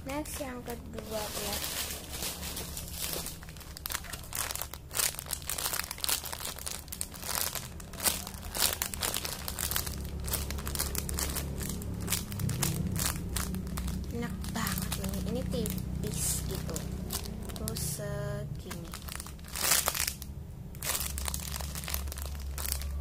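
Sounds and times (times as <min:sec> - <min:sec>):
steady low hum: 0:00.0 - 0:23.0
plastic crinkling: 0:00.1 - 0:23.0.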